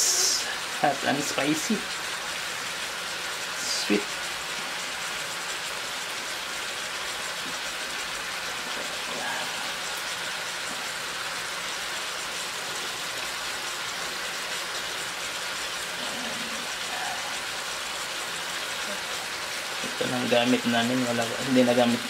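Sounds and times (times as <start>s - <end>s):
chicken sizzling in a wok: 0.0s - 22.0s.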